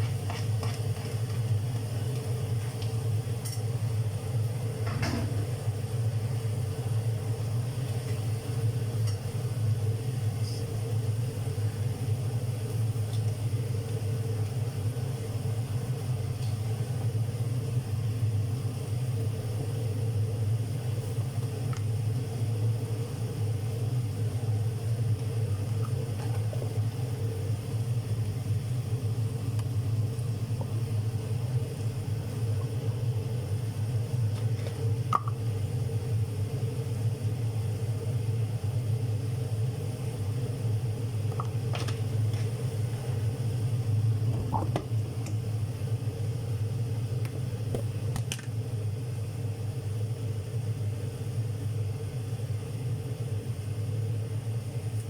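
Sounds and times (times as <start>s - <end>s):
low rumbling hum: 0.0s - 55.0s.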